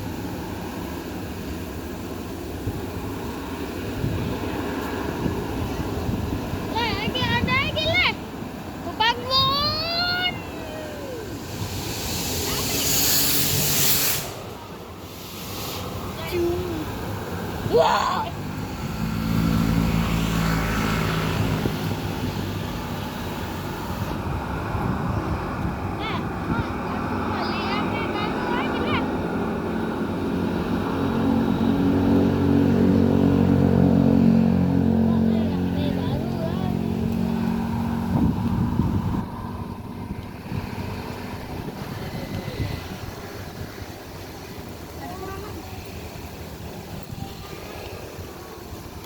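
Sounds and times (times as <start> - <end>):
wind noise: 0.0 - 34.5, 35.5 - 49.0
airliner engines rushing hum: 0.0 - 49.0.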